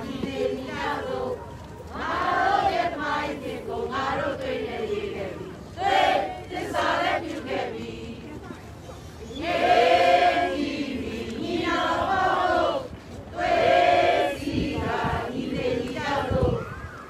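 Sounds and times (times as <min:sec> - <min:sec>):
crowd chanting slogans: 0:00.0 - 0:08.4, 0:09.3 - 0:16.7.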